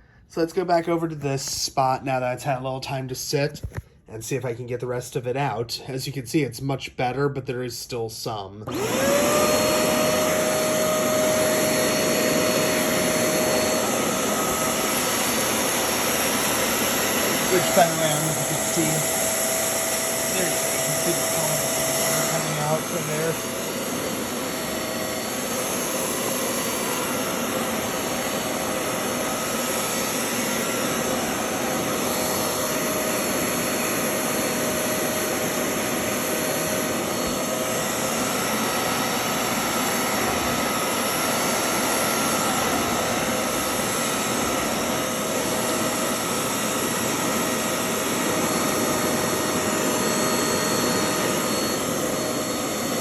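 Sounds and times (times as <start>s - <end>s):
spot cleaner suction motor whining: 8.6s - 53.0s.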